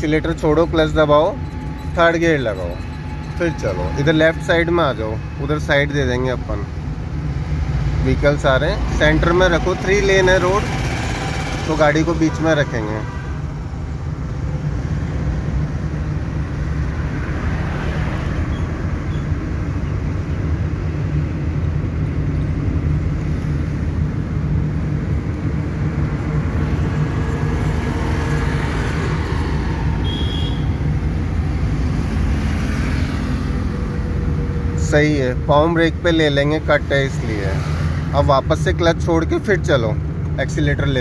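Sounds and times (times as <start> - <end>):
tyre and road noise: 0.0 - 41.0.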